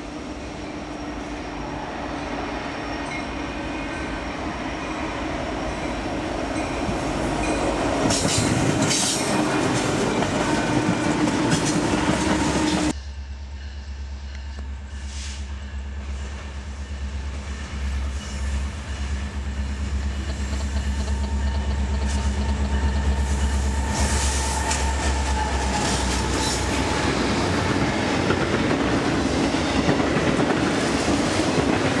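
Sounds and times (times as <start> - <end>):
locomotive engines droning: 0.0 - 32.0
rail cars rumbling and clattering: 0.0 - 32.0.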